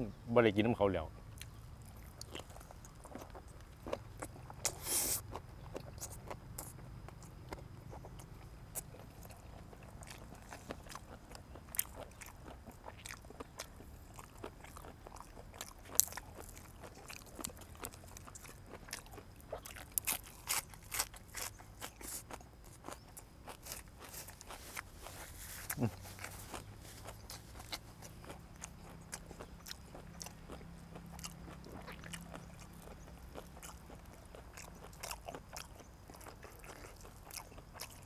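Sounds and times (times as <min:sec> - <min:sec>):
person chewing and crunching food: 0:01.3 - 0:38.0.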